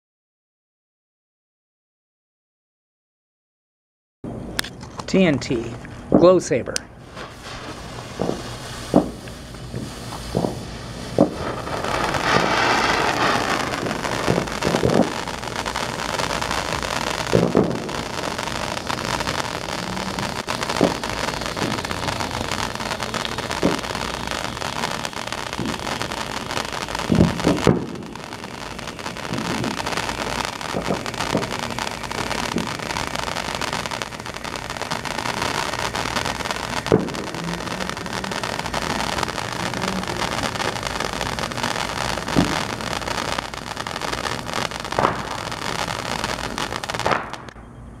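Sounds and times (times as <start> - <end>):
crackling pops: 6.7 - 47.6
firework fountain hissing sparks: 7.0 - 47.6.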